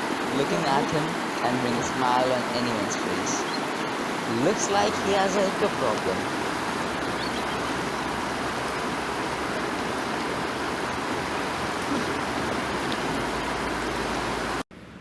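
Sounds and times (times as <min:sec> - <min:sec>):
fast-flowing stream rushing: 0:00.0 - 0:14.6.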